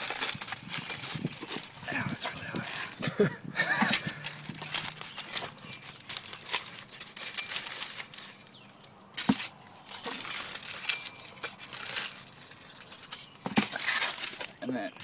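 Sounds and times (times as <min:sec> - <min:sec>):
aluminum foil crinkling: 0:00.0 - 0:15.0.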